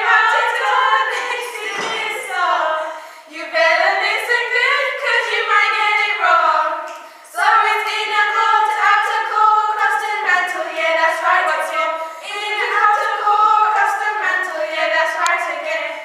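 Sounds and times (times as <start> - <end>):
girls singing unaccompanied: 0.0 - 16.0.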